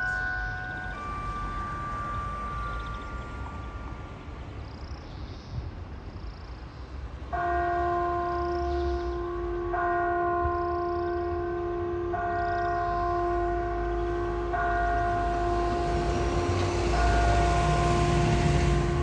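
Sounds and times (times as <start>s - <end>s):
clock tower bell striking: 0.0s - 5.0s, 7.3s - 19.0s.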